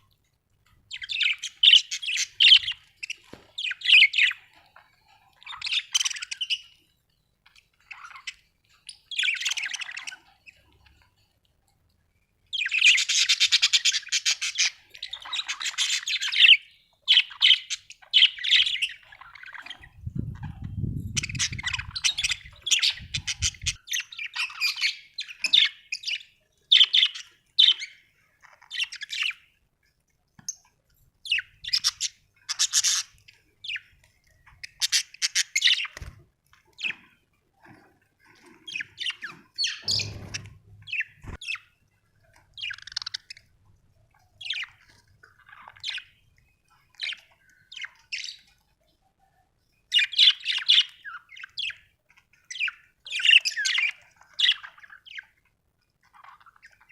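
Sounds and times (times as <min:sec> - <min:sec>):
budgerigars chirping and warbling: 0:00.8 - 0:11.2, 0:12.4 - 0:29.6, 0:30.4 - 0:43.5, 0:44.4 - 0:48.6, 0:49.8 - 0:56.9.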